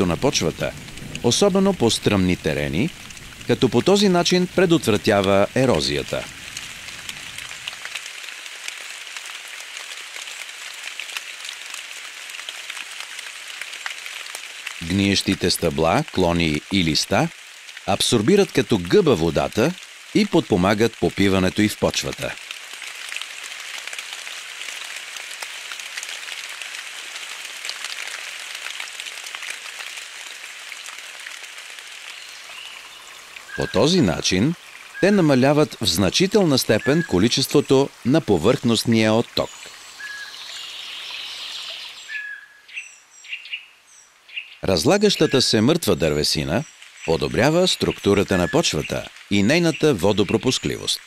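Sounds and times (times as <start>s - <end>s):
rain pattering on leaf litter: 0.0s - 51.0s.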